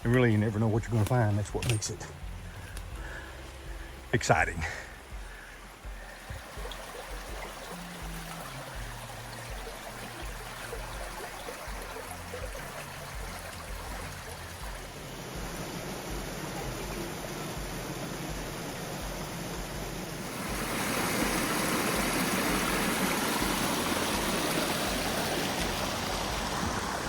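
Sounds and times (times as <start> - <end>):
creek water rushing over rocks: 0.0 - 27.0
low background music: 0.0 - 27.0.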